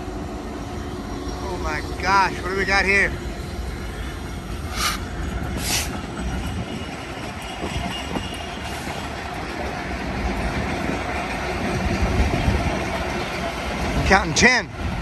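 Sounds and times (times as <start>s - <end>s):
diesel locomotive engines running: 0.0s - 15.0s
train wheels rolling on rails: 0.0s - 15.0s.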